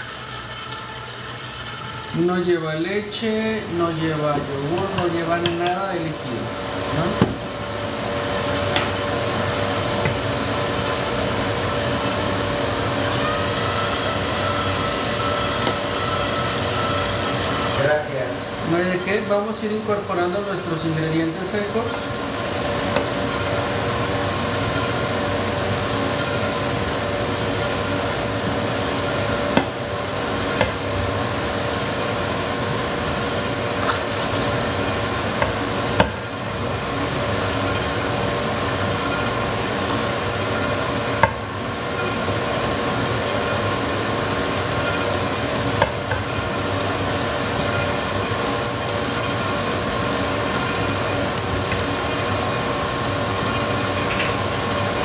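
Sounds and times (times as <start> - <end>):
stand mixer motor humming: 0.0 - 55.0.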